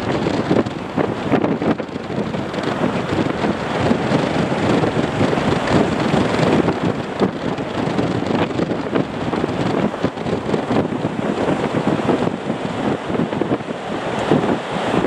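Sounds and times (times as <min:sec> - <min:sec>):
jet engines rushing: 0:00.0 - 0:15.0
wind buffeting microphone: 0:00.0 - 0:15.0.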